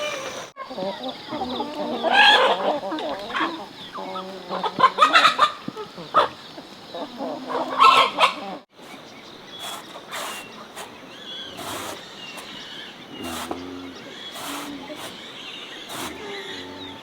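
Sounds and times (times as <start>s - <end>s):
chickens clucking: 0.0s - 9.0s, 9.6s - 17.0s.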